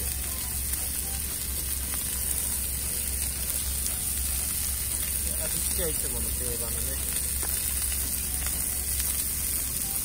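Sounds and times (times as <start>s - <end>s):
chicken sizzling in oil: 0.0s - 10.0s
steady low hum: 0.0s - 10.0s.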